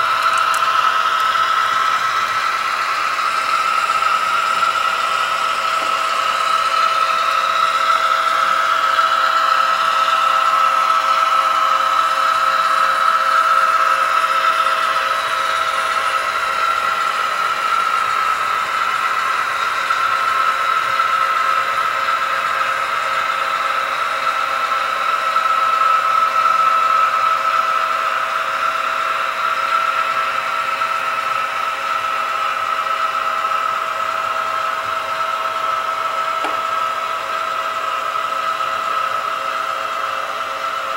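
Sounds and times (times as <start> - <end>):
model train motor whine: 0.0 - 40.9.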